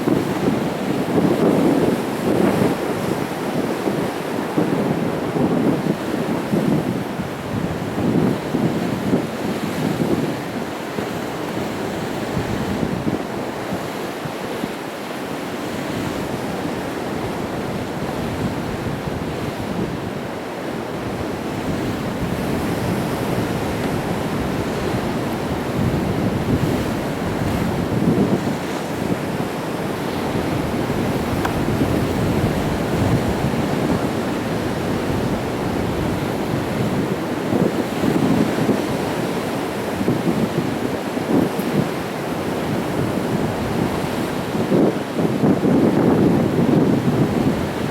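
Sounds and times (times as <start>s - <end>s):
sea waves breaking against rocks: 0.0s - 47.9s.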